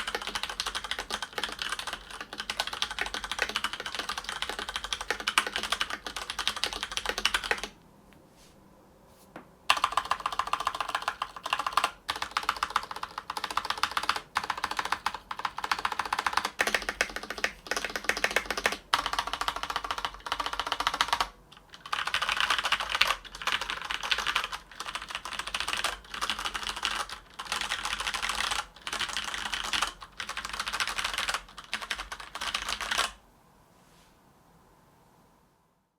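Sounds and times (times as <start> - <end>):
keyboard typing: 0.0 - 7.8, 9.7 - 33.2.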